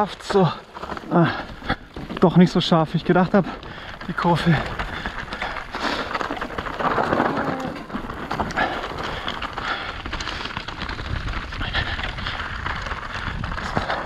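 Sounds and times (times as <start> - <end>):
bike clicks and rattles: 0.0 - 14.0
bike tyres crunching leaves and stones: 0.0 - 14.0.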